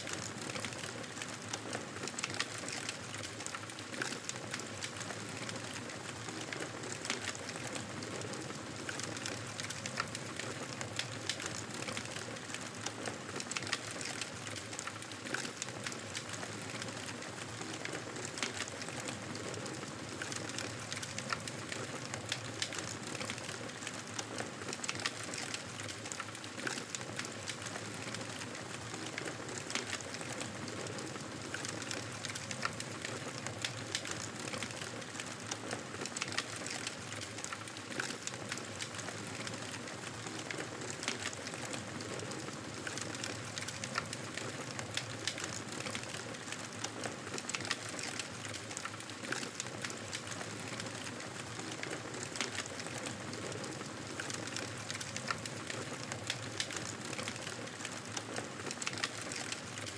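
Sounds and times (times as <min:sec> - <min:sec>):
wood crackling and popping: 0:00.0 - 0:59.9.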